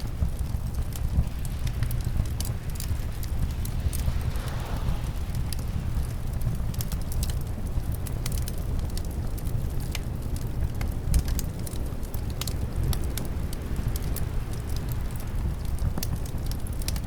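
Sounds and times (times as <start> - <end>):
fireplace fire crackling: 0.0 - 17.0
low rumble of wind: 0.0 - 17.0.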